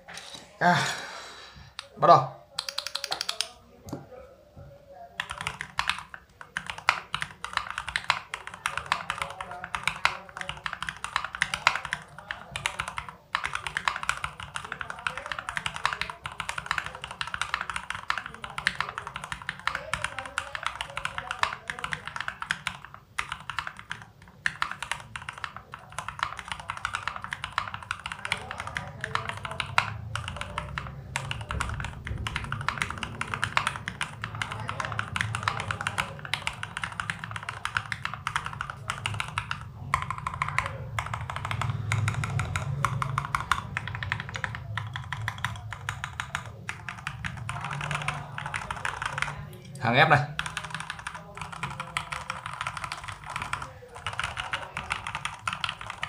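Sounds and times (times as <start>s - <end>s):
mechanical keyboard typing: 2.5s - 3.6s, 5.2s - 56.0s.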